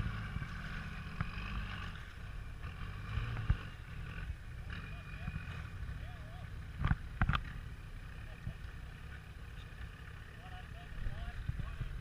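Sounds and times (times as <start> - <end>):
engine running under load: 0.0 - 12.0.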